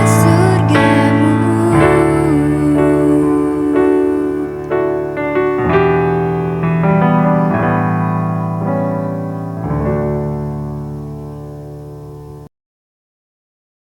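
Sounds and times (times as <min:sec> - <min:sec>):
keyboard playing chords: 0:00.0 - 0:12.5.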